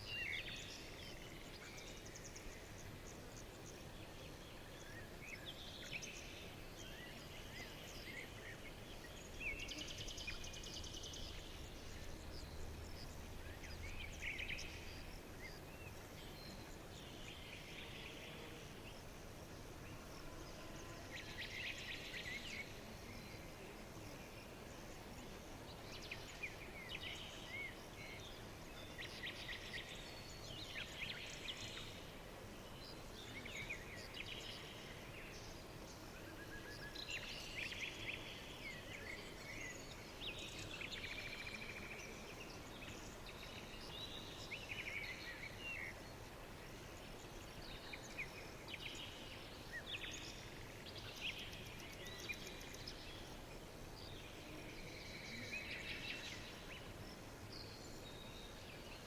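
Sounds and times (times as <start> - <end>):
faint steady hiss: 0.0 - 59.0
songbirds chirping and trilling: 0.0 - 59.0.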